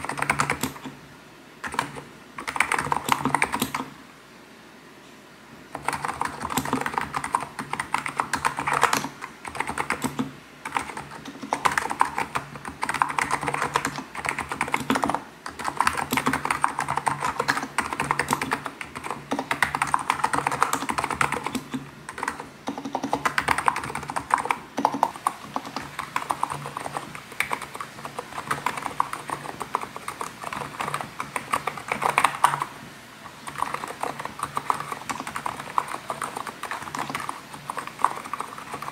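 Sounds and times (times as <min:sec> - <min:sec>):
fast keyboard typing: 0:00.0 - 0:00.9, 0:01.6 - 0:03.9, 0:05.7 - 0:38.9.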